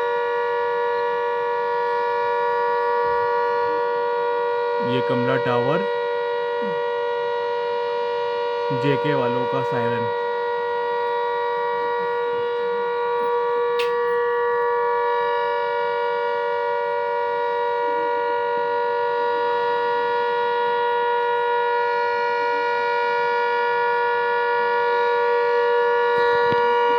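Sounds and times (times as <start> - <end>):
civil defence siren steady note: 0.0 - 26.9.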